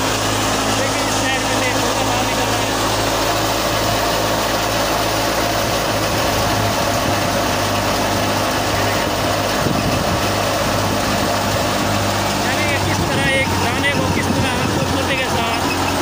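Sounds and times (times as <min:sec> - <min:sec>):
thresher machine drone: 0:00.0 - 0:16.0.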